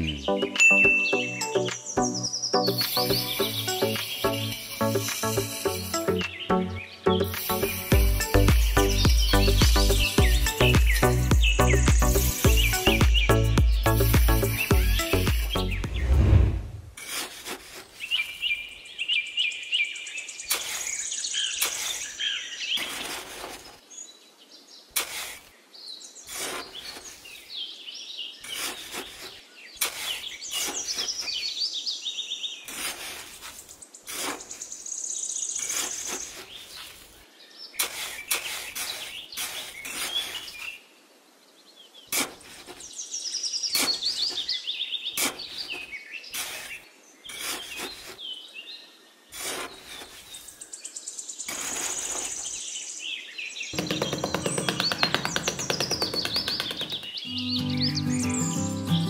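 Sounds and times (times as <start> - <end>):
small birds chirping: 0.0 - 16.3, 17.8 - 59.0.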